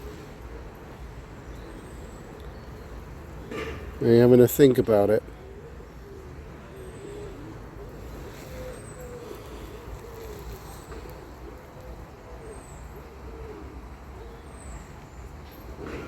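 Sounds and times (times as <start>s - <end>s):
distant traffic rumble: 0.0s - 16.0s
pigeon cooing: 0.0s - 16.0s.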